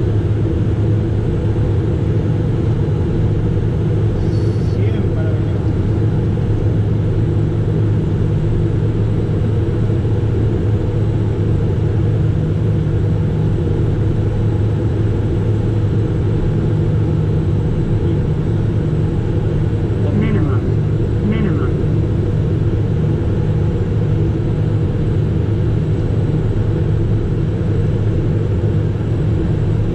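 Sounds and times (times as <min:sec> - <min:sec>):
jet engine drone in cockpit: 0:00.0 - 0:29.9.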